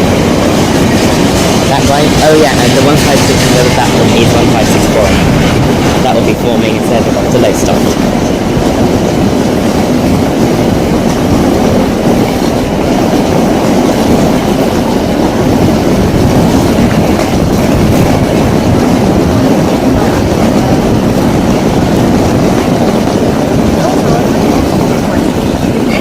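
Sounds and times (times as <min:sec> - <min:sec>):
train rumbling past: 0:00.0 - 0:26.0.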